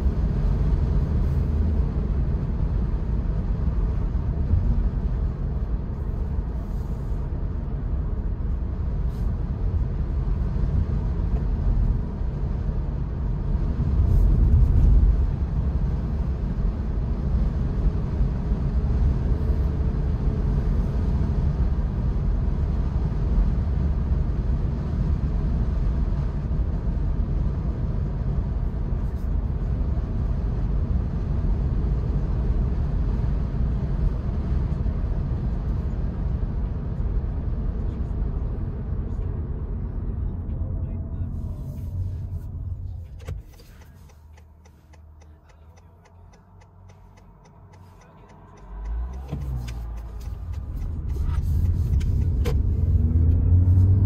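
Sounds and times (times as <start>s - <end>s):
road and wind noise inside car: 0.0s - 54.0s.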